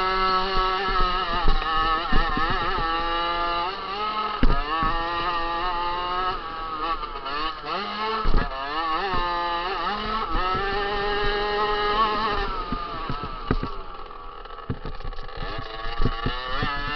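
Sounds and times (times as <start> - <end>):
motocross bike engine revving: 0.0 - 16.9
sharp thumps: 0.0 - 16.9.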